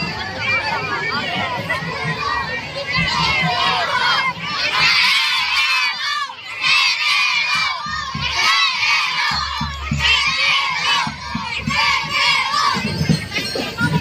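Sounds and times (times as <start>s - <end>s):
children shouting and cheering: 0.0s - 14.0s.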